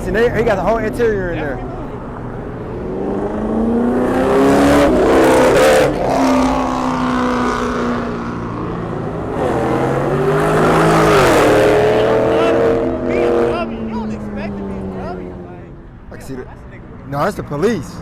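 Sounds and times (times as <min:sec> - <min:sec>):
car engine revving: 0:00.1 - 0:15.8.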